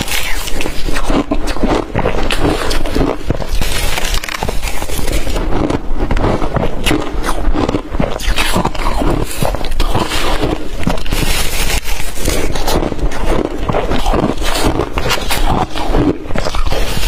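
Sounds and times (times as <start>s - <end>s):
chewing crushed ice: 0.0s - 17.0s.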